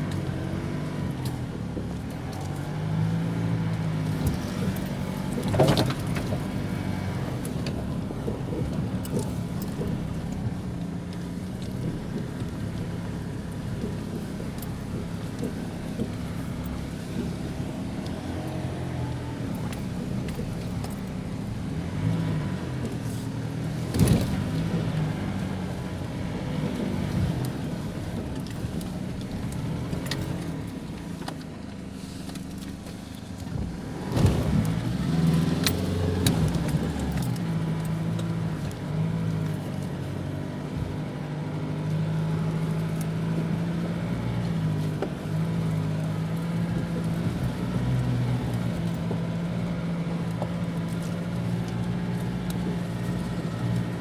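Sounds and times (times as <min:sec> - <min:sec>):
diesel engine running at low revs: 0:00.0 - 0:54.0.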